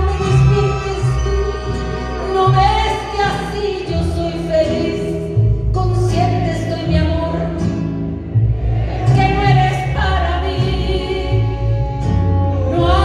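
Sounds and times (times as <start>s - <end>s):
live band playing a ballad: 0.0s - 6.8s, 7.5s - 13.0s.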